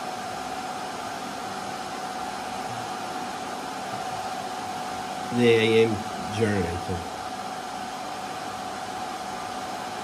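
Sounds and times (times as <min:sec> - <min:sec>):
cooling fans rushing: 0:00.0 - 0:10.0.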